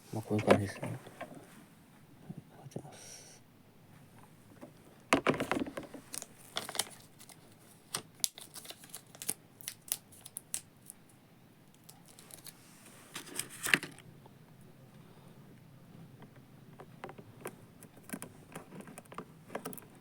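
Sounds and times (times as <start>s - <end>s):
crinkling and rustling by hand: 0.0s - 2.1s, 3.9s - 15.0s, 15.9s - 20.0s.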